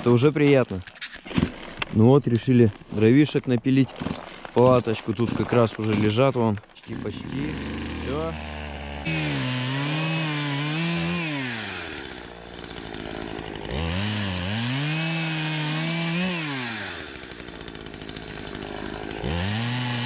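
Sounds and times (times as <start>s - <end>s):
chainsaw cutting and idling: 0.0s - 0.6s, 3.9s - 20.0s.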